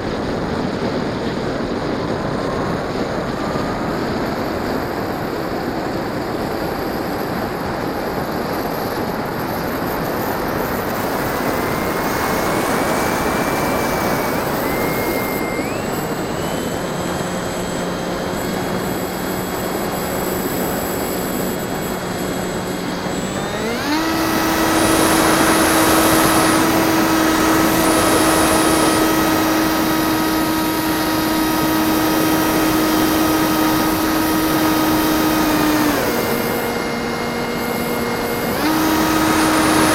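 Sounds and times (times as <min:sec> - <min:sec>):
electric motor and propeller whining: 0:00.0 - 0:39.9
wind noise: 0:00.0 - 0:39.9.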